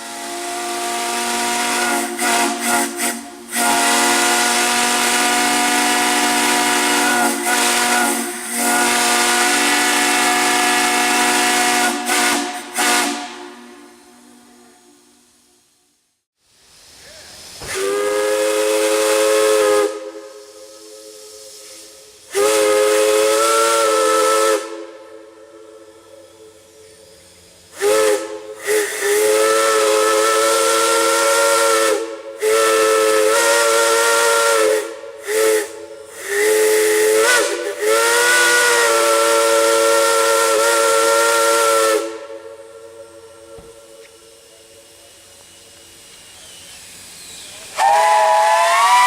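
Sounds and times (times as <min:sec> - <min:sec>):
steam chime whistle blasts: 0:00.0 - 0:15.6, 0:17.6 - 0:49.0
steam hissing: 0:00.0 - 0:49.0.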